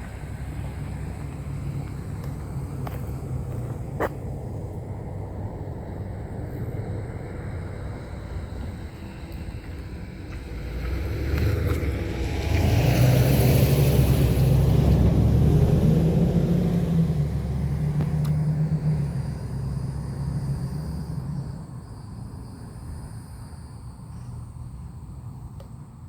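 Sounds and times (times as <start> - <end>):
pickup truck engine passing: 0.0 - 22.0.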